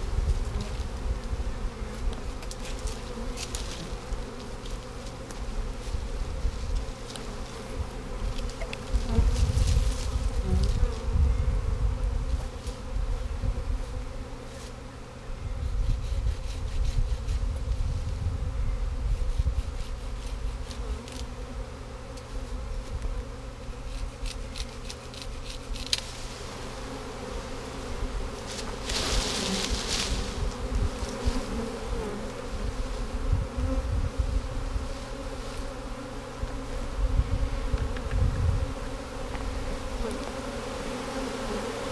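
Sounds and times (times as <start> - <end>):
bees buzzing: 0.0 - 41.9.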